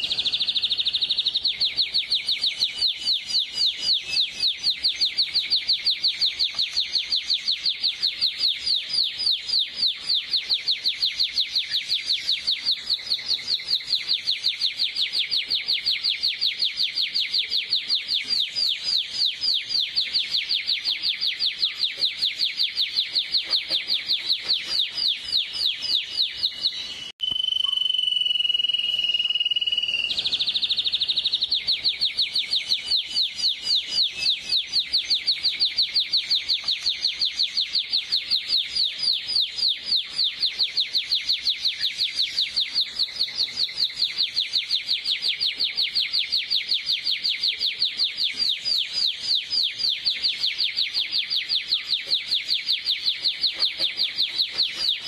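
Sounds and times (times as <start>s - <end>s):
canary singing trill: 0.0s - 55.0s.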